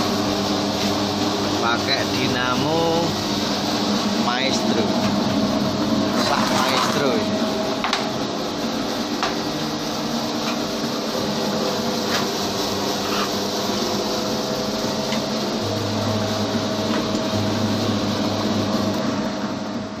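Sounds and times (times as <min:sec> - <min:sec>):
deeper hum: 0:00.0 - 0:20.0
electric motor hum: 0:00.0 - 0:20.0.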